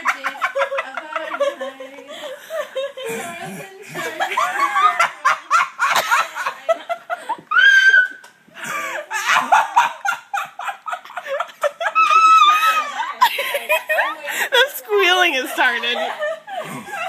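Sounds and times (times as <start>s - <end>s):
girls laughing and giggling: 0.0s - 17.0s.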